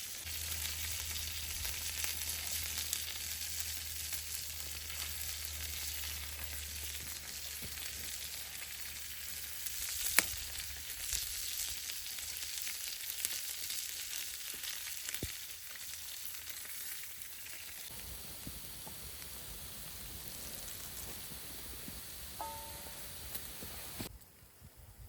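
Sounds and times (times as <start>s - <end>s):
food sizzling in a pan: 0.0s - 24.1s.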